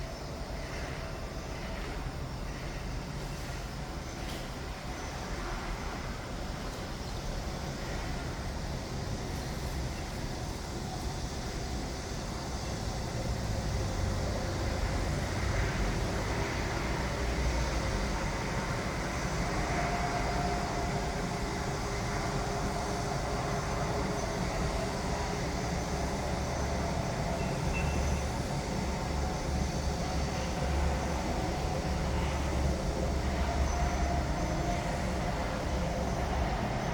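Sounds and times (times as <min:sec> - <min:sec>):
construction machinery rumble: 0:00.0 - 0:36.9.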